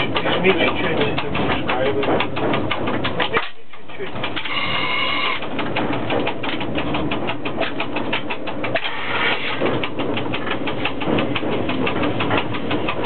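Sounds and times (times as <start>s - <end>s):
locomotive hum: 0.0s - 13.0s
rapid even clicking: 0.0s - 13.0s.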